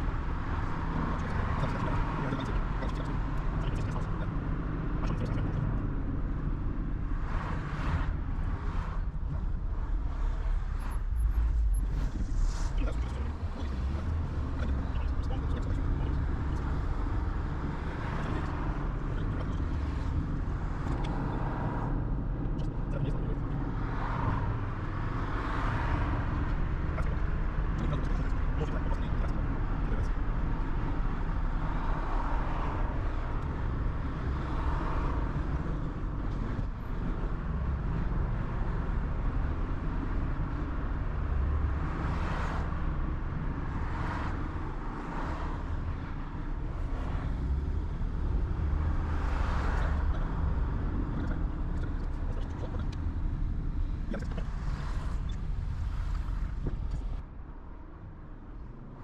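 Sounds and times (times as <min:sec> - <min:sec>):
vehicles swishing past: 0:00.0 - 0:57.8
car road rumble: 0:00.0 - 0:59.0.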